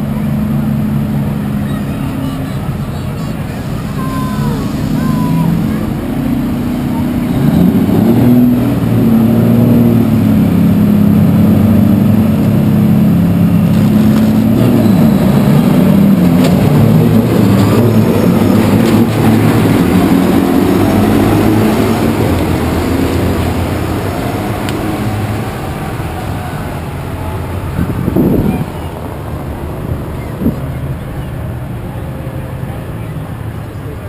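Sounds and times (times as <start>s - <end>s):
diesel truck engines revving: 0.0s - 34.0s.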